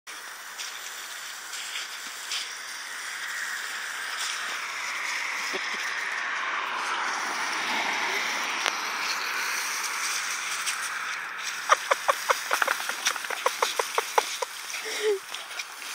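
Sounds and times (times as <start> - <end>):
hose spraying water onto gravel: 0.1 - 15.9.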